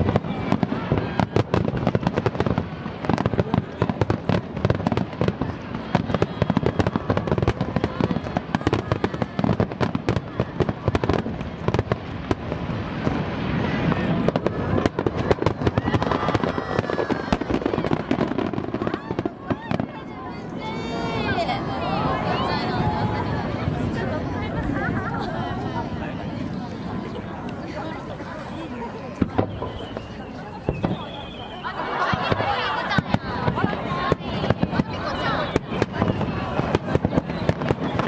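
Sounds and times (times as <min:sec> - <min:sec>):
faint crowd voices: 0:00.0 - 0:38.0
fireworks bursting: 0:00.0 - 0:38.0.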